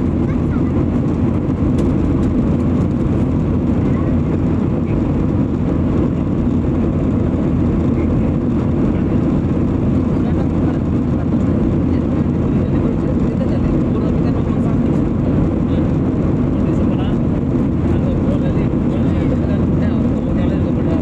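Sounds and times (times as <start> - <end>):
jet airliner cabin noise: 0.0 - 21.0.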